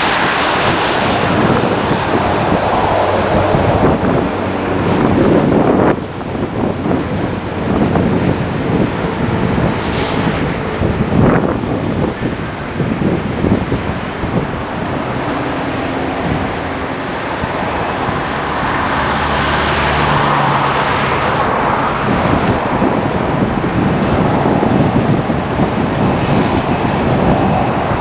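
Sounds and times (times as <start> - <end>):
jet engines roaring: 0.0 - 28.0
wind gusting on microphone: 0.0 - 28.0.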